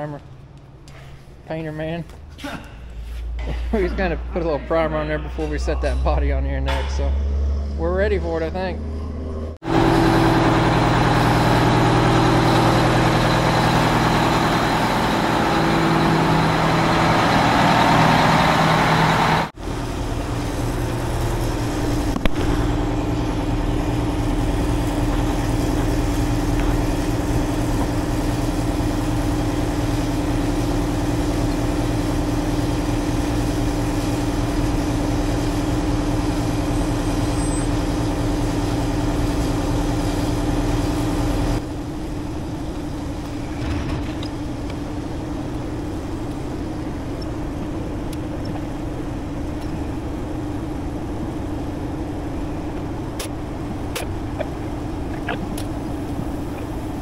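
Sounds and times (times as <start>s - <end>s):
diesel engine running: 3.4s - 57.0s.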